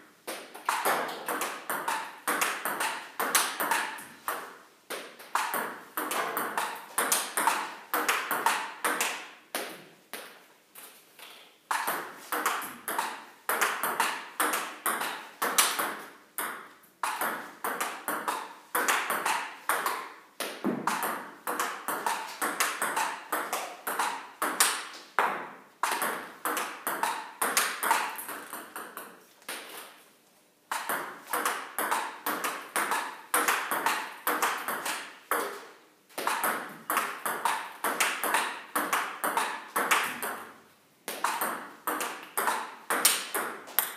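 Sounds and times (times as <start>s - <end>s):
table tennis balls pinging: 0.3s - 10.4s, 11.2s - 30.0s, 30.7s - 43.9s.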